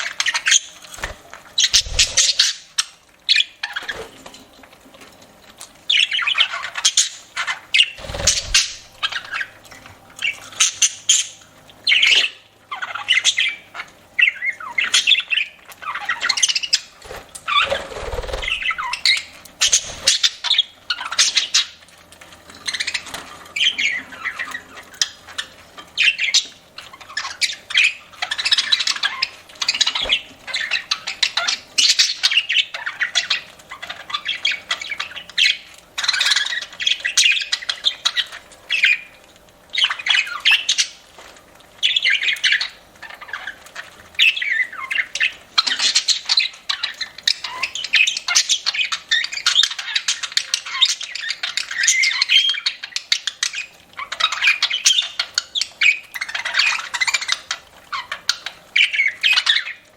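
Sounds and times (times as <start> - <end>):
budgerigars chattering and squawking: 0.0 - 4.2, 5.9 - 21.8, 22.6 - 41.0, 41.8 - 59.9.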